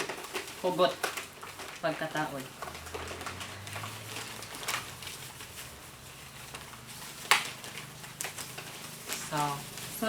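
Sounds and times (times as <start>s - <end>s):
faint handling sounds: 0.0s - 10.0s.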